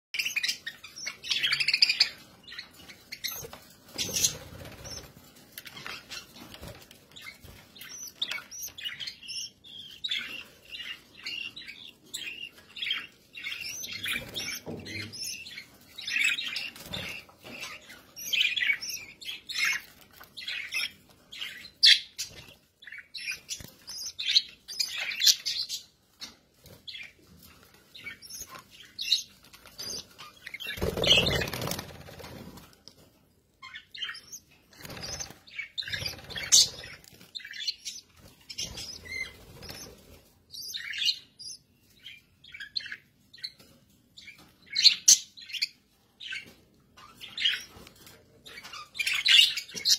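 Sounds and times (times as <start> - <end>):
budgerigars chirping: 0.2 - 31.9, 33.6 - 43.6, 44.2 - 49.9.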